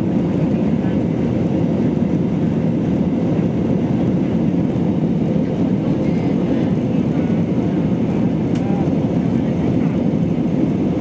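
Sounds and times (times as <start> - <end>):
jet engine drone: 0.0 - 11.0.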